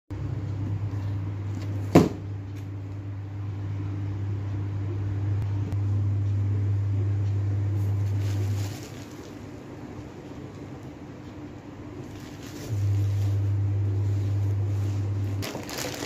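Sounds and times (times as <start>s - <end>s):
low machine hum: 0.1s - 16.0s.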